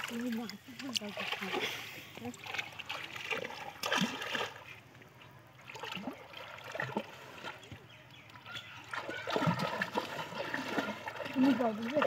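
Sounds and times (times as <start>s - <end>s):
people wading in water: 0.0s - 12.0s
water splashing and trickling: 0.0s - 12.0s.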